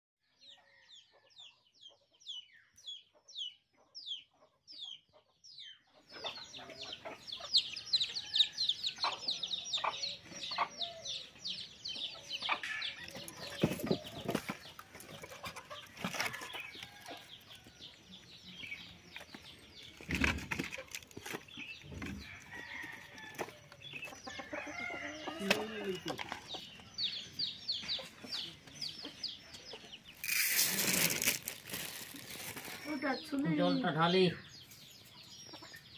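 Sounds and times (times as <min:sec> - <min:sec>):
birds chirping: 0:00.2 - 0:35.9.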